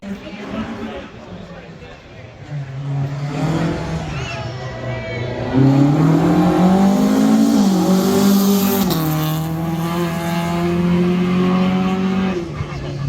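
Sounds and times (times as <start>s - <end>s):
rally car engine accelerating: 2.4s - 13.0s.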